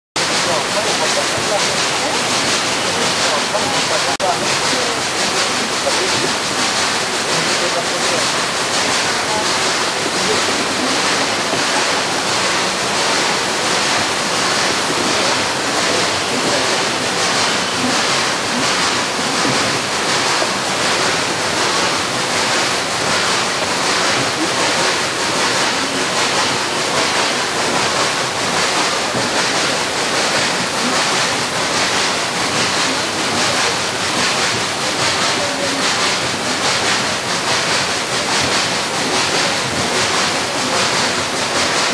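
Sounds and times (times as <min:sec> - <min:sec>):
rack train running: 0:00.2 - 0:41.9.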